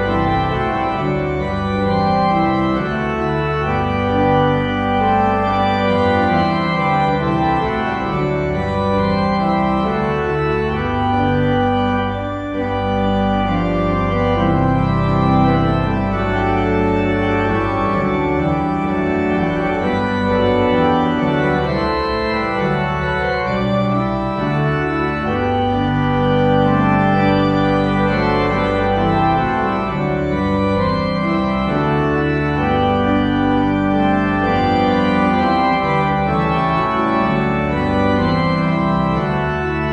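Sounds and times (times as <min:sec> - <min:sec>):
organ bass note: 0:00.0 - 0:39.9
organ chords: 0:00.0 - 0:39.9.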